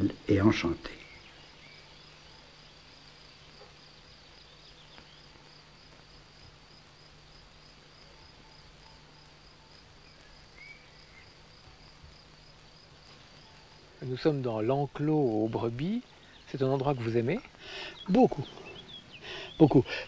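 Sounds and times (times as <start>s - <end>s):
crickets chirring: 0.0s - 20.0s
low steady hum: 0.0s - 20.0s.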